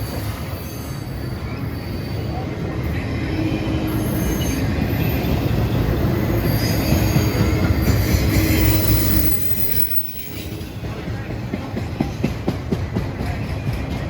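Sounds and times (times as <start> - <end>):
rumble of train wheels on rail: 0.0 - 14.0.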